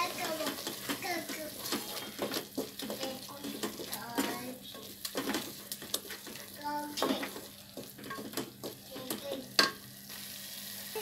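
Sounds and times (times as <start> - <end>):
wooden spoon scraping a pot: 0.0 - 9.7
paste sizzling in oil: 0.0 - 11.0.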